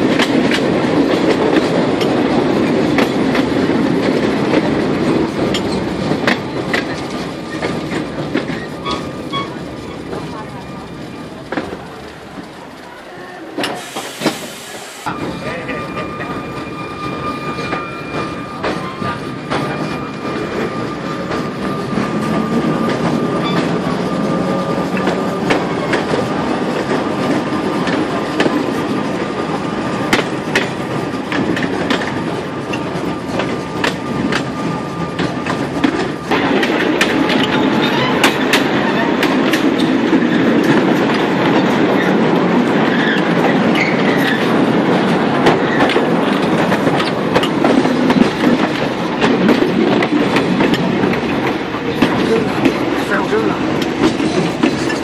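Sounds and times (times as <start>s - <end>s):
wheels clacking on rail joints: 0.0s - 14.4s, 15.1s - 55.0s
tram rolling rumble: 0.0s - 55.0s.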